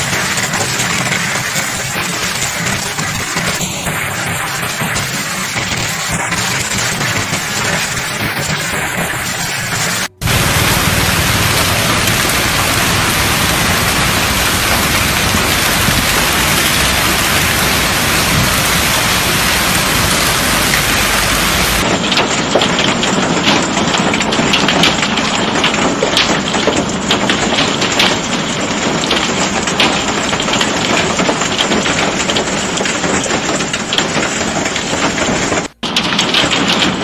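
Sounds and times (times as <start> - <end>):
hail ticking on windshield: 0.0 - 37.0
hailstones pelting: 0.0 - 37.0
heavy rain downpour: 0.0 - 37.0.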